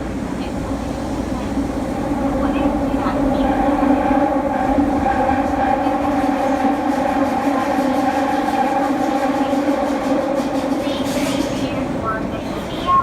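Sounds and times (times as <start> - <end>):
subway train drone: 0.0 - 13.0
train rumble: 0.0 - 13.0.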